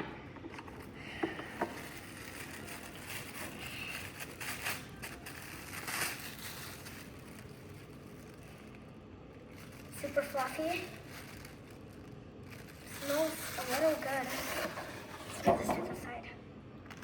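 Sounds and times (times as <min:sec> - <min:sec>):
plastic packaging crinkling: 0:00.6 - 0:15.2.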